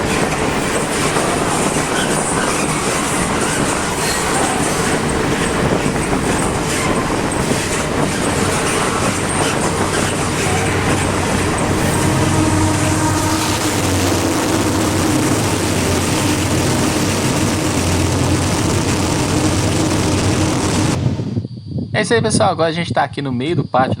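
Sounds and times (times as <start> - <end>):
freight train wheels clacking: 0.0 - 21.2.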